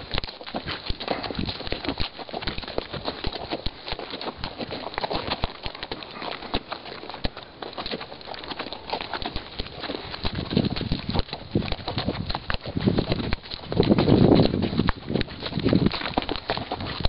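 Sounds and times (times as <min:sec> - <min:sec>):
hooves clopping on stony ground: 0:00.0 - 0:17.0.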